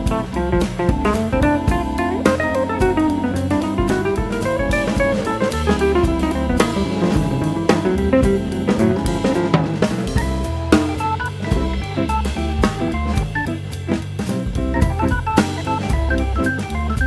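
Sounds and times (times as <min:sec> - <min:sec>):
bass line: 0:00.0 - 0:17.0
drum kit beat: 0:00.0 - 0:17.0
melodic notes: 0:00.0 - 0:17.0.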